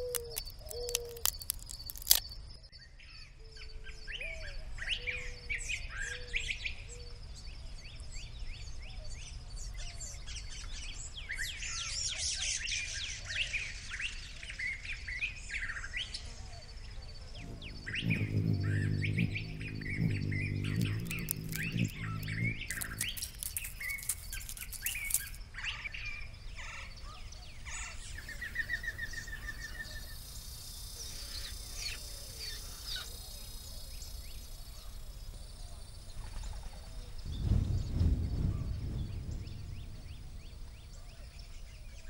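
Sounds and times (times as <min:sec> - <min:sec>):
desert birds chirping: 0:00.0 - 0:42.0.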